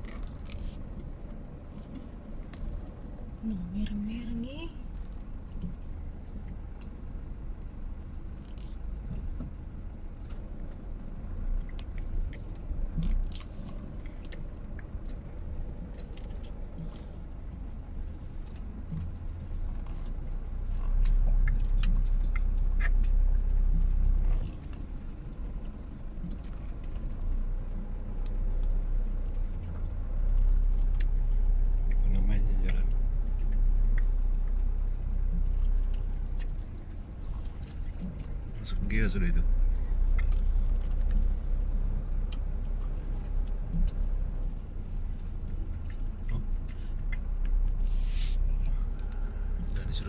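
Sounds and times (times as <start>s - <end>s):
engine and tyre rumble: 0.0s - 50.0s.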